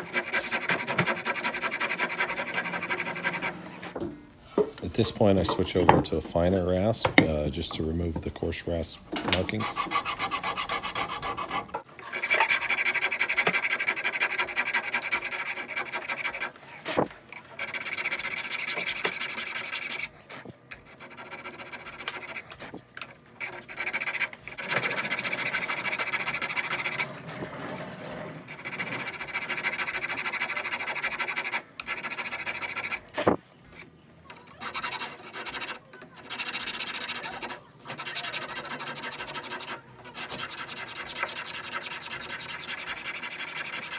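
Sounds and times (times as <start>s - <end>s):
wood rasp scraping wood: 0.0s - 4.0s, 9.4s - 43.9s.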